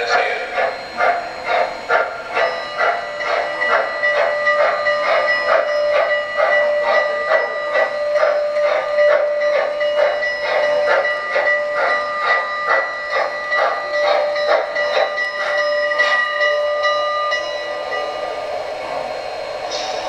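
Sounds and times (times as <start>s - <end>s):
long steady whistle: 0.0s - 20.0s
steam locomotive chuffing: 0.0s - 20.0s.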